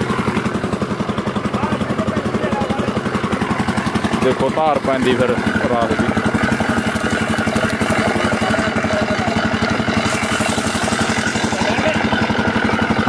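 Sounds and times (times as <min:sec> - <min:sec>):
engine chugging: 0:00.0 - 0:13.0
sugarcane crusher rollers running: 0:00.0 - 0:13.0.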